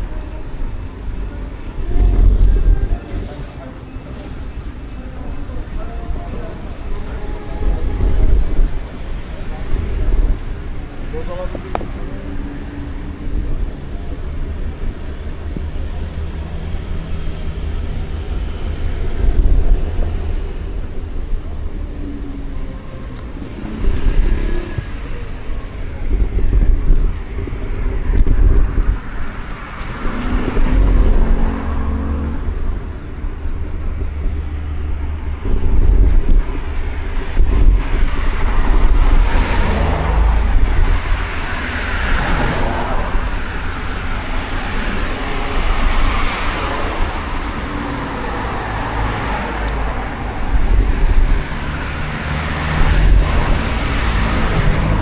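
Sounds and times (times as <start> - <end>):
cars passing: 0.0 - 55.0
low traffic rumble: 0.0 - 55.0.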